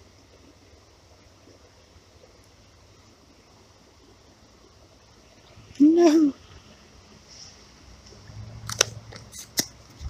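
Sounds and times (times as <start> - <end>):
faint background noise: 0.0 - 10.0.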